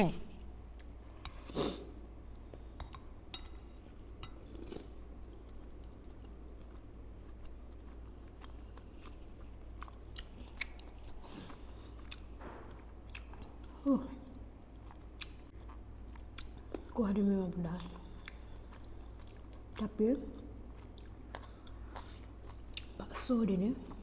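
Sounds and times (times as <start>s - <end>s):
chewing with small crunches: 2.2s - 24.0s.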